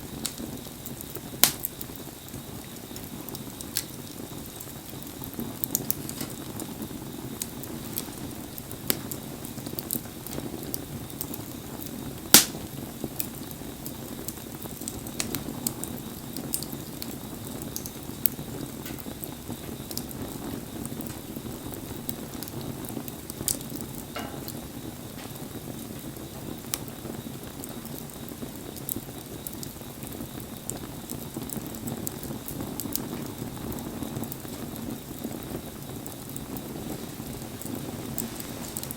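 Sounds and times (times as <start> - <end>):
campfire crackling and popping: 0.0 - 38.9
rain hissing: 0.0 - 38.9.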